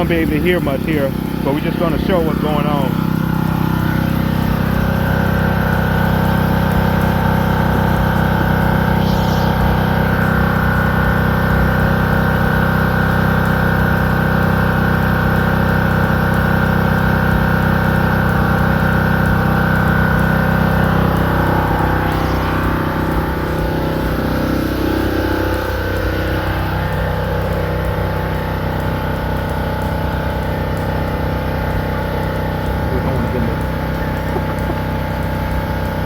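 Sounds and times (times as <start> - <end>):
heavy engine running: 0.0 - 36.0.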